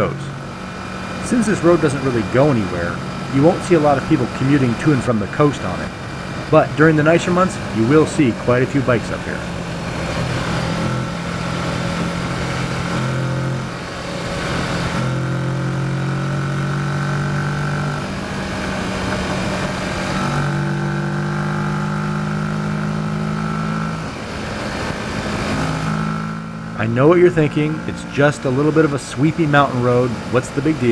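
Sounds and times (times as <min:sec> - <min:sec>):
motorcycle engine cruising: 0:00.0 - 0:30.9.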